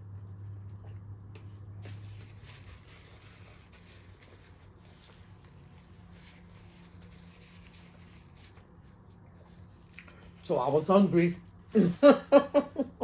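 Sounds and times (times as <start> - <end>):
low steady hum: 0.0 - 13.0
faint rustling and handling: 0.1 - 12.5.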